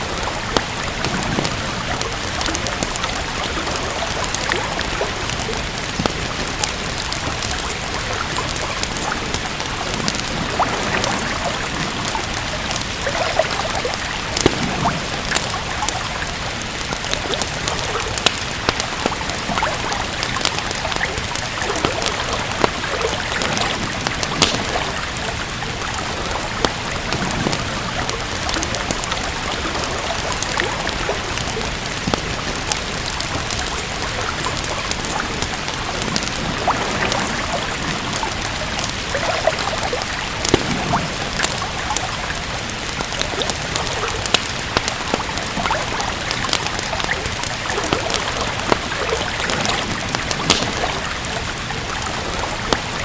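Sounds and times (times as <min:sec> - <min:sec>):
steady rain: 0:00.0 - 0:53.0
wood fire crackling and popping: 0:00.0 - 0:53.0.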